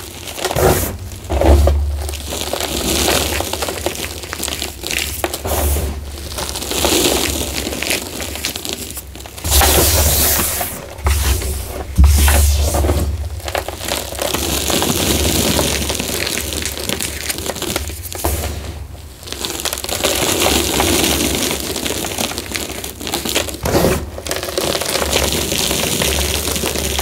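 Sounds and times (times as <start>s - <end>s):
hands crunching chalk: 0.0s - 27.0s.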